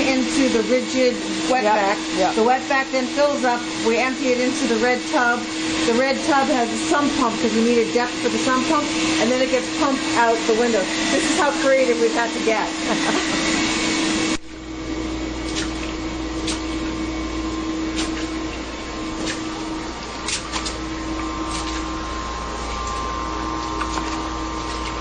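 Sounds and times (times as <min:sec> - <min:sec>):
shop vacuum sucking water: 0:00.0 - 0:25.0.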